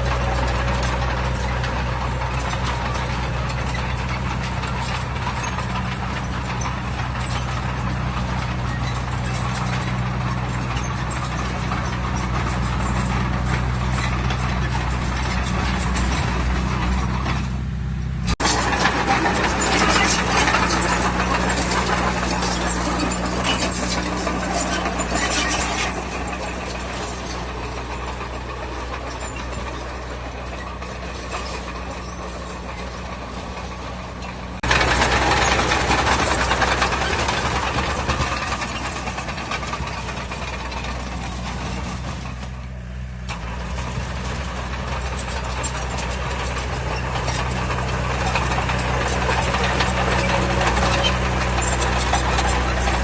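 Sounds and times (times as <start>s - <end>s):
heavy diesel engine running: 0.0s - 53.0s
noisy machine work: 0.0s - 53.0s.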